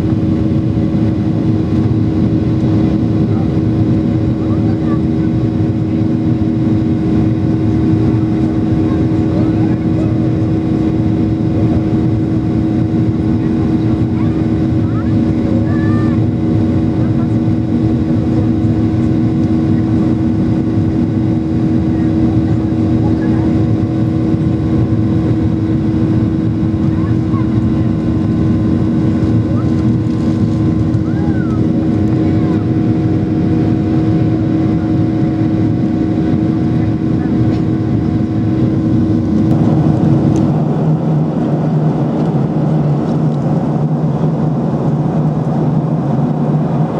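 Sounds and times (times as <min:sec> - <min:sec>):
jet engines idling inside cabin: 0:00.0 - 0:46.9.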